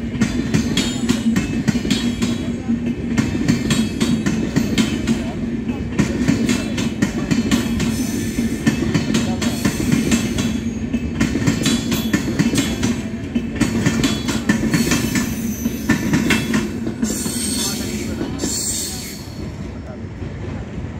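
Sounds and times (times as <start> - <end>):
train coaches rumbling past: 0.0 - 20.9.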